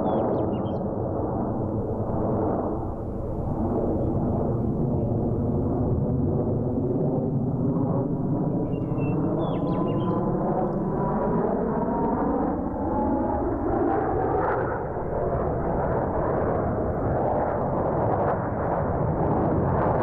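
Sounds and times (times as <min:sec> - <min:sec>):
jets flying overhead: 0:00.0 - 0:20.0.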